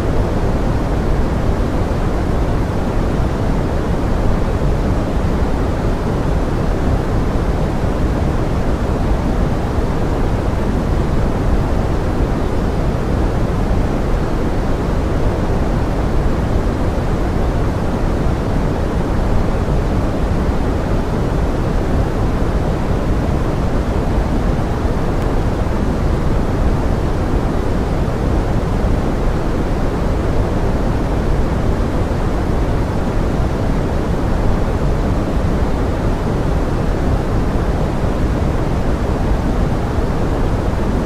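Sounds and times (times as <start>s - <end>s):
pink noise hiss: 0.0s - 41.0s.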